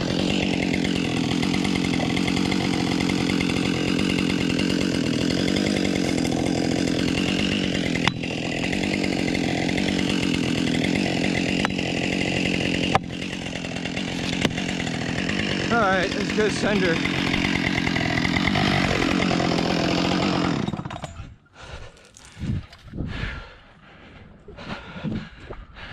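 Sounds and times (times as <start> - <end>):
chainsaw running: 0.0 - 23.5.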